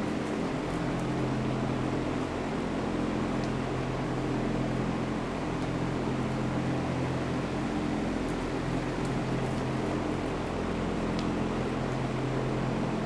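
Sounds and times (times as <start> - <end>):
machine hum with low tones: 0.0 - 13.0.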